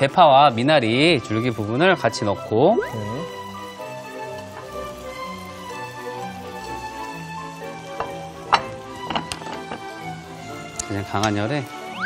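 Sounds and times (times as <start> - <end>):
light melody of held notes: 0.0 - 12.0.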